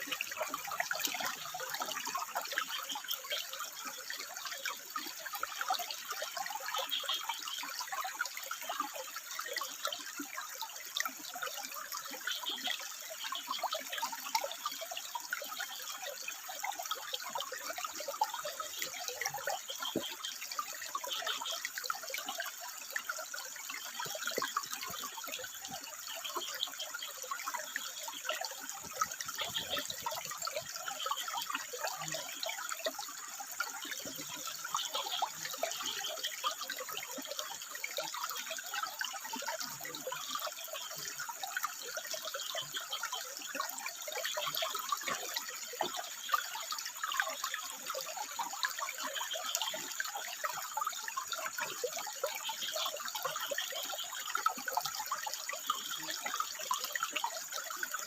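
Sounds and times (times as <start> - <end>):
water dripping: 0.0 - 58.0
water trickling over rocks: 0.0 - 58.0.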